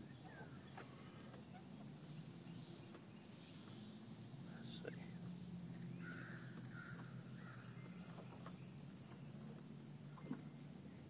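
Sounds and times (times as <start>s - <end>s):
faint low hum: 0.0s - 11.0s
insects droning: 0.0s - 11.0s.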